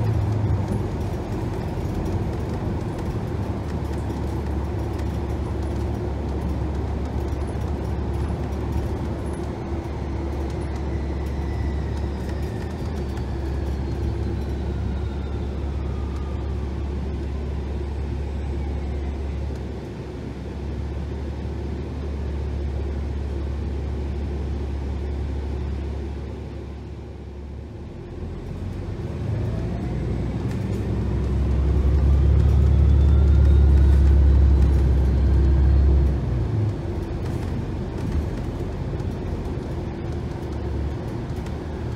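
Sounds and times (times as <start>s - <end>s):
bus engine rumble: 0.0s - 41.9s.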